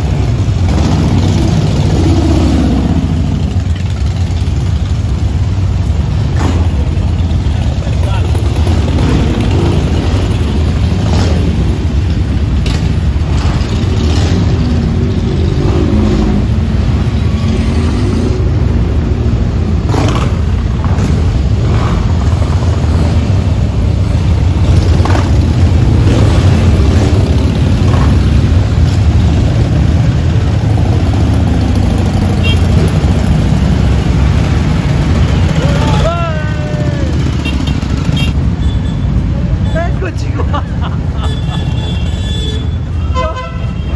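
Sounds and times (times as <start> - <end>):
motorcycle engines rumbling: 0.0 - 43.9.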